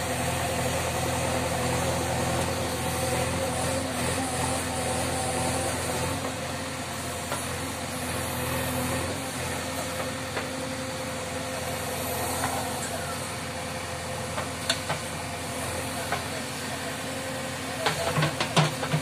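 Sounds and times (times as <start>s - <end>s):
backhoe digging soil: 0.0s - 19.0s
diesel engine running: 0.0s - 19.0s.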